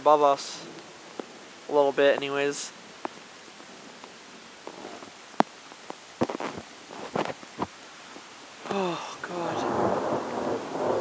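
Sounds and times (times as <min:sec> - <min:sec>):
light rain hissing: 0:00.0 - 0:11.0
raindrops ticking: 0:00.0 - 0:11.0.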